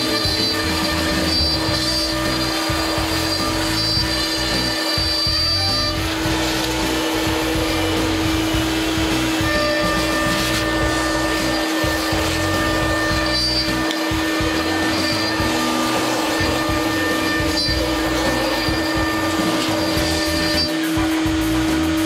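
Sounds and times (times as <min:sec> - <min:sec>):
bit rasping through wood: 0:00.0 - 0:22.0
router spindle whine: 0:00.0 - 0:22.0.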